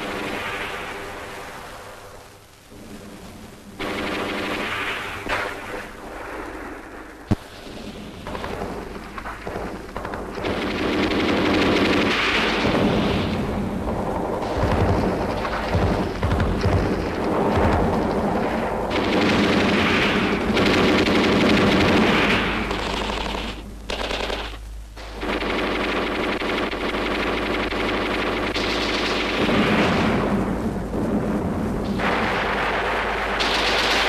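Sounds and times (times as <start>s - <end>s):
machine-gun and rifle fire: 3.8s - 34.0s.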